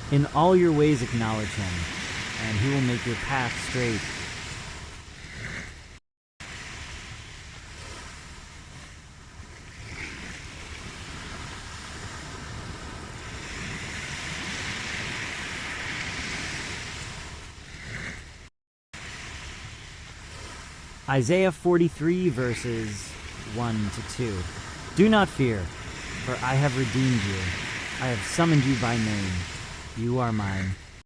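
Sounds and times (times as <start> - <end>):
ocean waves washing onto shore: 0.0 - 31.0.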